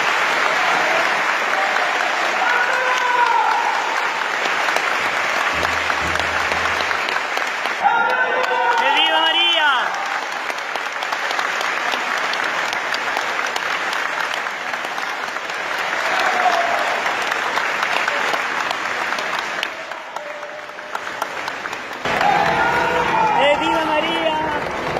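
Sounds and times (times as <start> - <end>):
crowd applauding: 0.0 - 24.9.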